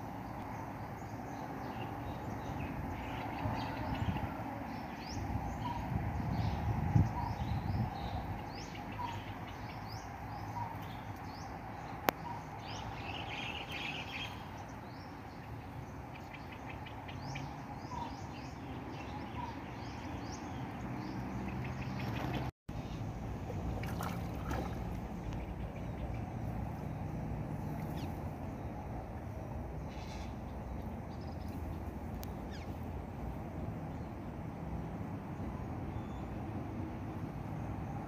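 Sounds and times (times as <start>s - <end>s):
small birds chirping: 0.2s - 23.2s, 23.8s - 34.3s.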